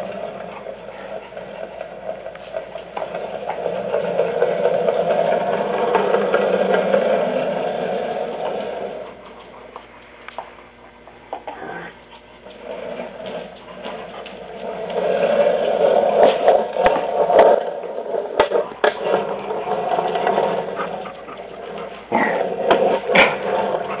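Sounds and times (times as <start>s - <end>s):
stool casters rolling on concrete: 0.0s - 24.0s.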